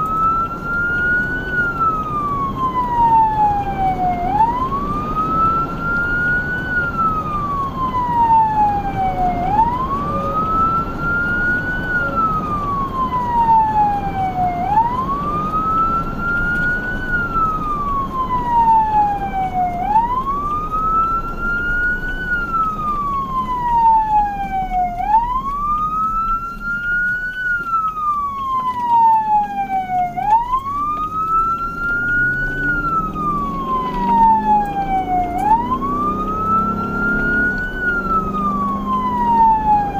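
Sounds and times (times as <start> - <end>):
emergency siren wailing: 0.0 - 39.9
engine and road noise: 0.0 - 39.9.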